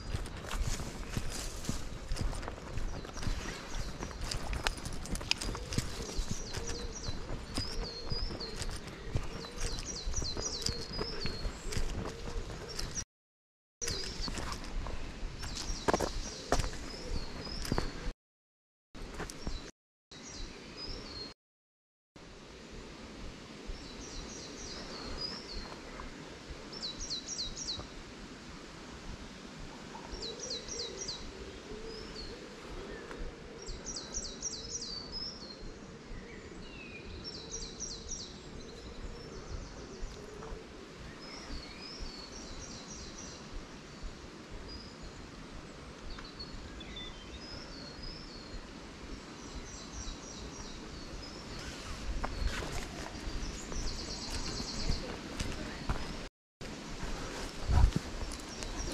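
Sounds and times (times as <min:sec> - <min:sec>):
songbird singing: 0:00.0 - 0:13.0, 0:13.8 - 0:18.1, 0:19.0 - 0:21.4, 0:23.5 - 0:28.8, 0:29.6 - 0:58.9.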